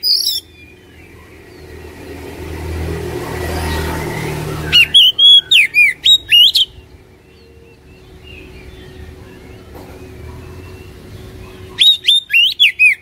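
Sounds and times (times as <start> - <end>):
bird singing whistled notes: 0.0 - 2.0, 3.5 - 13.0.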